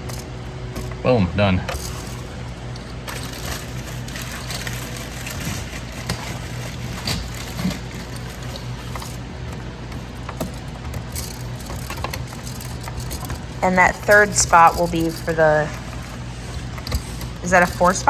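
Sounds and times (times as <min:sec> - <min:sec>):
electrical wires clicking and knocking: 0:00.0 - 0:18.0
steady low hum: 0:00.0 - 0:18.0.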